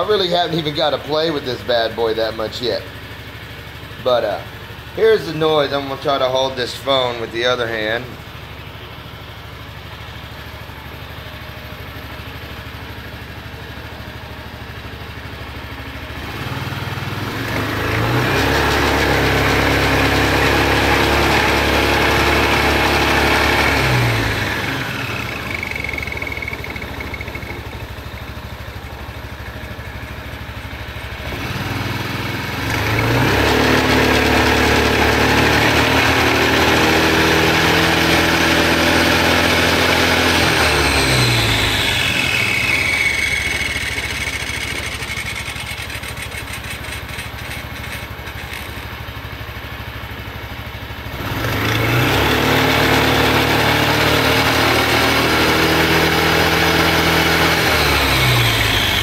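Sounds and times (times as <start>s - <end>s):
noise from rear wheel: 0.0s - 59.0s
scooter engine idling and revving: 0.0s - 59.0s.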